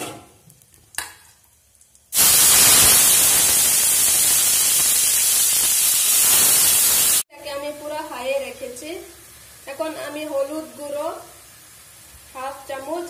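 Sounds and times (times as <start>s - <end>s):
food sizzling in hot oil: 1.4s - 13.0s.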